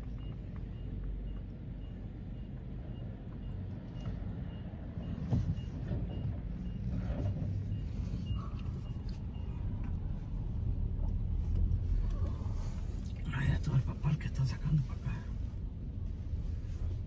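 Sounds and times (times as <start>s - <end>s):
car rolling slowly rumble: 0.0s - 17.0s.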